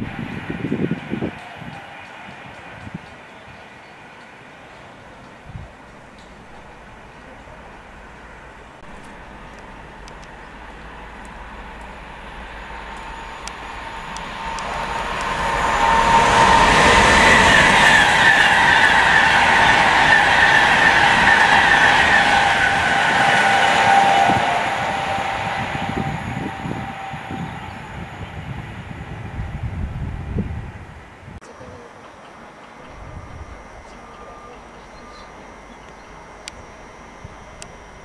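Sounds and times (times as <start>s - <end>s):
electric train passing: 0.0s - 38.0s
high whine: 0.0s - 38.0s.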